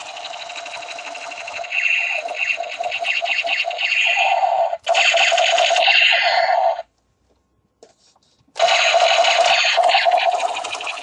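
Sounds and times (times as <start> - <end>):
toy gun electronic firing sound: 0.0 - 6.8, 8.6 - 11.0.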